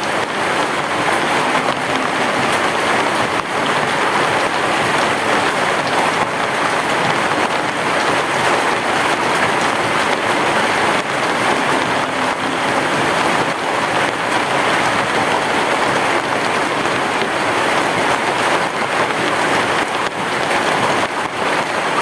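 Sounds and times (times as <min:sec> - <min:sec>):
heavy rain on a roof: 0:00.0 - 0:22.0.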